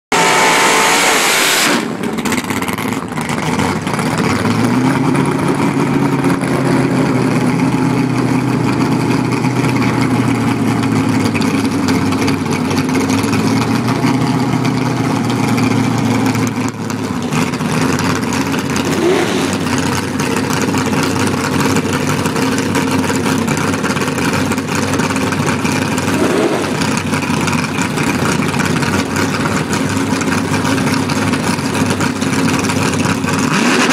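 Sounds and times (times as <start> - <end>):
engine blast and spinning tyres: 0.1 - 33.9
car engine idling: 1.7 - 33.9.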